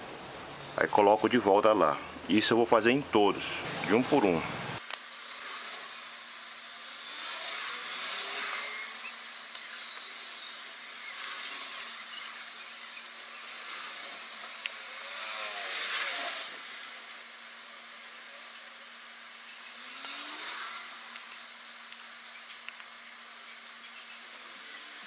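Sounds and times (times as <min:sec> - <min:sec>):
broad hiss: 0:04.7 - 0:25.0.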